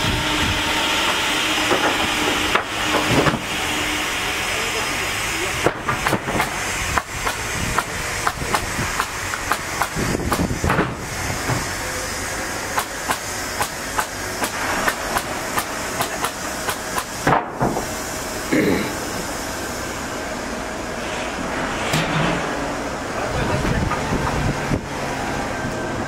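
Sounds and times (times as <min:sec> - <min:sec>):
band sawmill hissing: 0:00.0 - 0:26.0.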